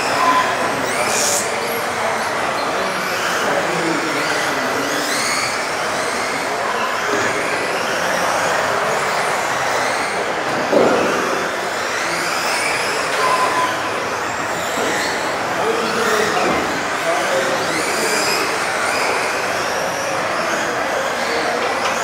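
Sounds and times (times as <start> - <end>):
electric rc car motors whining: 0.0 - 22.0.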